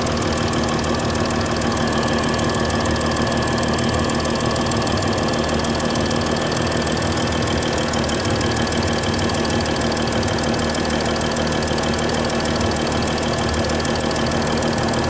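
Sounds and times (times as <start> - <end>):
car engine idling with ticking: 0.0 - 15.0.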